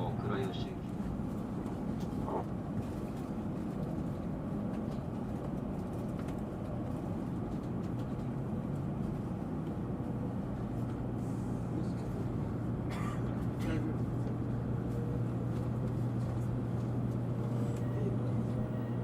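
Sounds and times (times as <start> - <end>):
faint constant hum: 0.0 - 19.0
train cabin rumble: 0.0 - 19.0.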